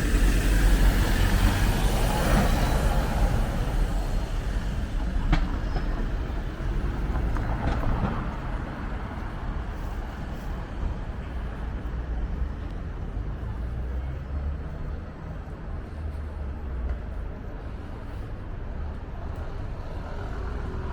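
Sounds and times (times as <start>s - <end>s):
passing vehicle rumble: 0.0s - 20.9s.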